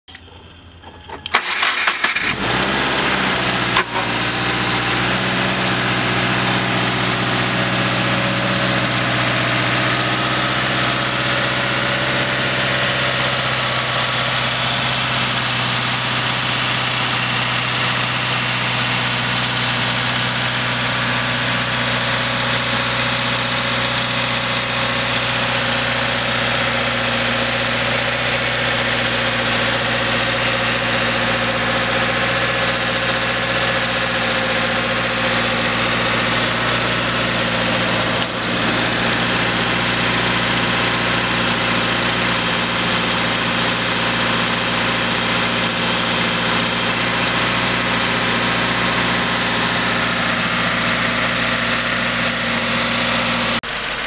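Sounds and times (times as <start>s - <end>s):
car engine starting and idling: 0.1s - 54.0s.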